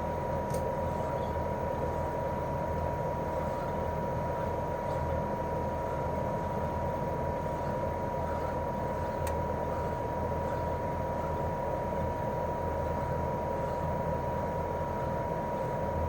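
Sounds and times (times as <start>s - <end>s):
air conditioner unit whirring: 0.0s - 16.0s.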